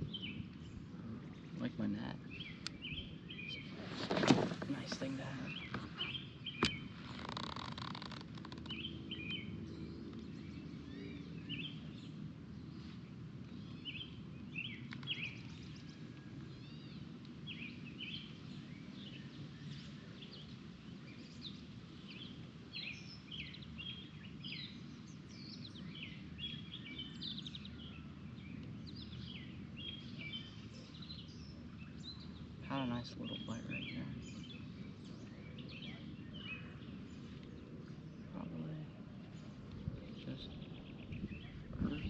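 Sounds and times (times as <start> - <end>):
birds chirping: 0.0 - 42.0
low background noise: 0.0 - 42.0.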